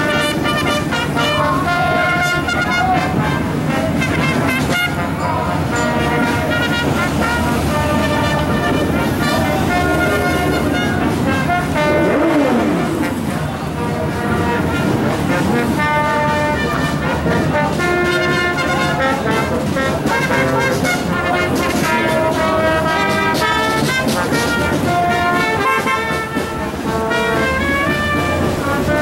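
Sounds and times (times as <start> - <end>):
brass band horns playing melody: 0.0 - 29.0
steady drum beat: 0.0 - 29.0.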